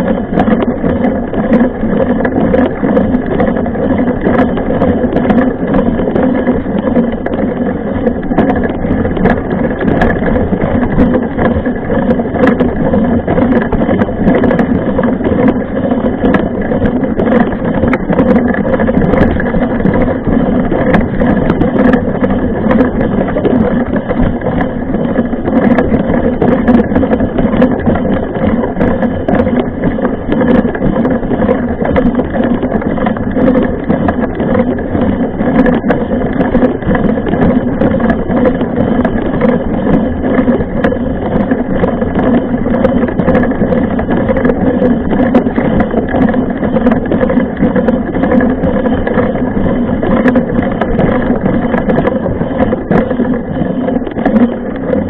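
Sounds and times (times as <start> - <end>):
rumble of wind and tyres: 0.0 - 55.0.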